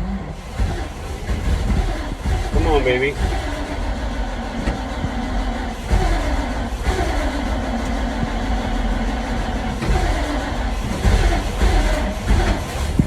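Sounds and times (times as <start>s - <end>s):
truck engine cranking: 0.0s - 13.0s.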